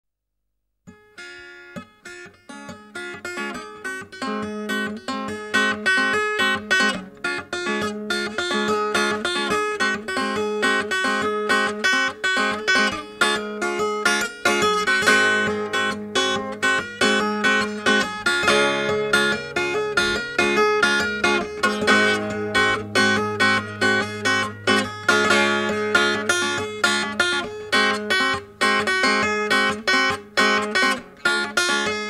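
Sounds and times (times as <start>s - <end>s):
picked acoustic guitar music: 0.9s - 32.0s.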